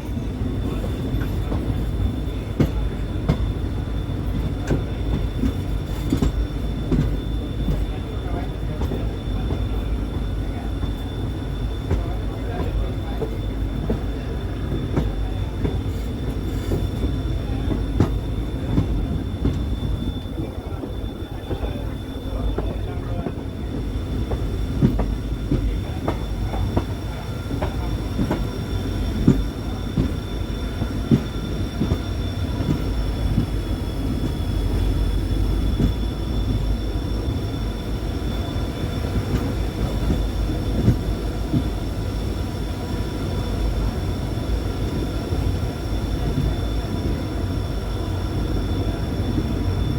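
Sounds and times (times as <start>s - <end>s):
train rumbling on track: 0.0s - 49.9s.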